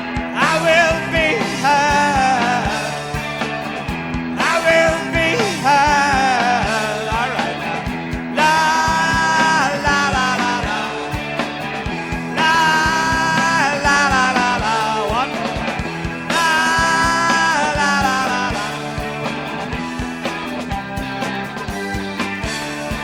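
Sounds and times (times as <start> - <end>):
live rock band playing: 0.0 - 23.0
steady drum beat: 0.0 - 23.0.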